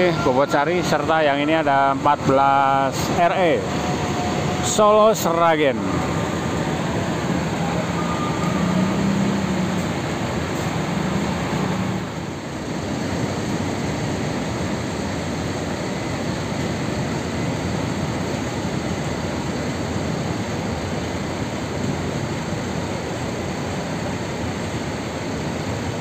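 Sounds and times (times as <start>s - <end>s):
bus engines running: 0.0s - 26.0s
low engine hum: 0.0s - 26.0s
vehicle noise: 0.0s - 26.0s.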